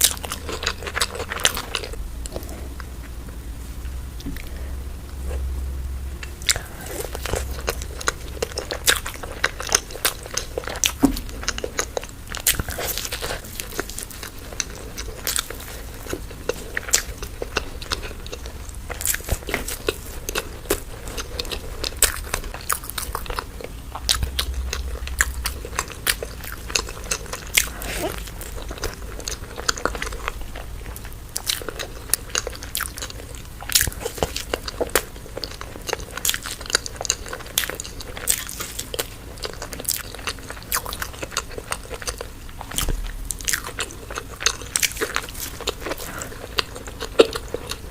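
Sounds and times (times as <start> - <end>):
chewing crunchy food: 0.0 - 5.5, 6.2 - 47.9.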